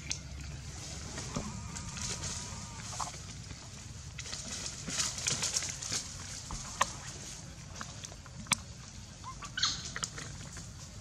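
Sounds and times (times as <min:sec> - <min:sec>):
dry leaves rustling: 0:00.6 - 0:11.0.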